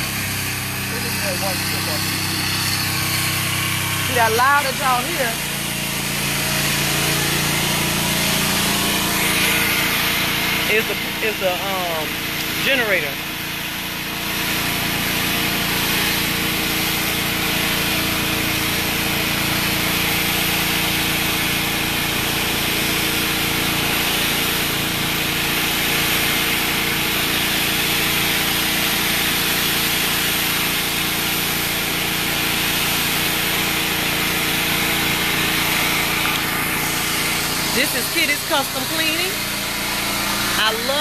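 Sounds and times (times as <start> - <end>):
generator engine running: 0.0 - 41.0
pressure washer spray hiss: 0.0 - 41.0.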